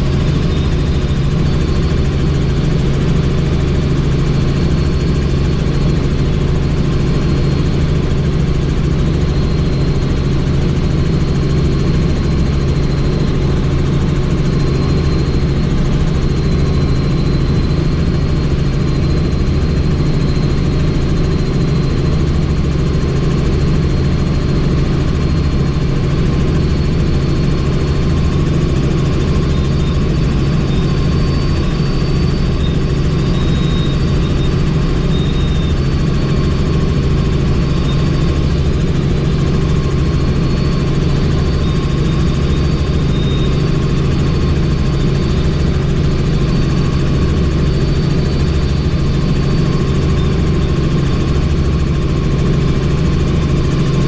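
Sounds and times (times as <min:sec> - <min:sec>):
helicopter turbine and rotor noise: 0:00.0 - 0:54.0.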